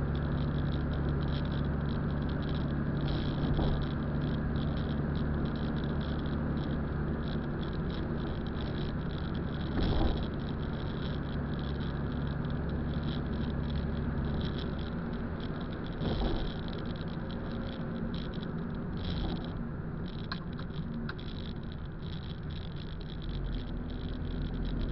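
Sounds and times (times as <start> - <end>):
car engine hum: 0.0 - 24.9
tyre noise on wet road: 0.0 - 24.9.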